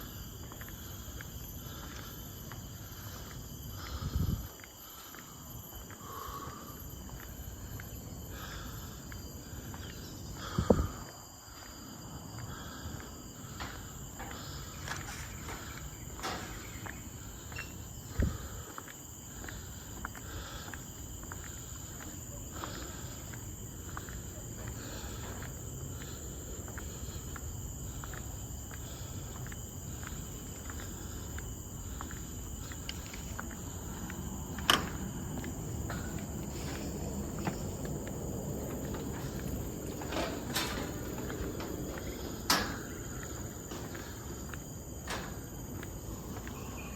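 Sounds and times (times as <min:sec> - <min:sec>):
footsteps on a path: 0:00.0 - 0:46.9
forest insects droning: 0:00.0 - 0:46.9.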